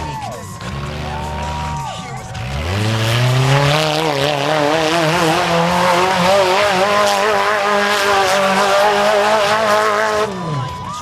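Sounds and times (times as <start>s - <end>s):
motorcycle engine revving high: 0.0s - 11.0s.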